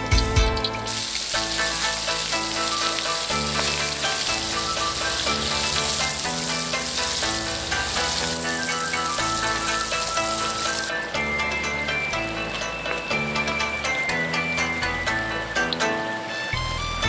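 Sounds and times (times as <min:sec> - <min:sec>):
background music of held notes: 0:00.0 - 0:17.0
shrimp sizzling in hot oil: 0:00.0 - 0:17.0.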